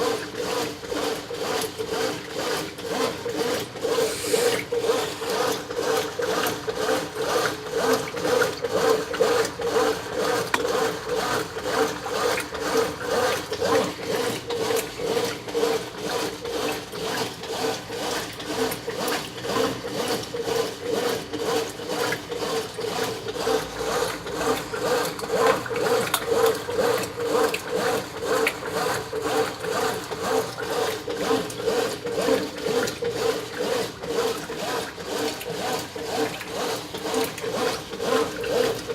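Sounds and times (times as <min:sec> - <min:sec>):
water and clothes churning: 0:00.0 - 0:38.9
washing machine motor hum: 0:00.1 - 0:38.9.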